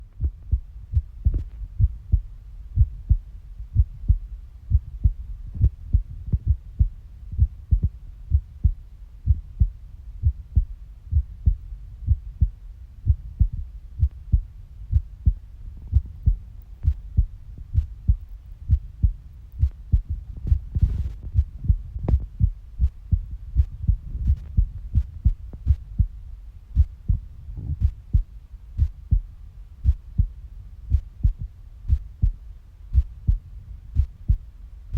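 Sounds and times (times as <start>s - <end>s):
heartbeat thumps: 0.0s - 34.5s.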